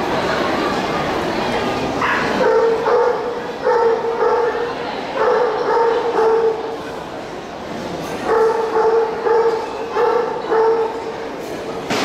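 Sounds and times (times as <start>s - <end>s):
crowd hubbub: 0.0s - 12.0s.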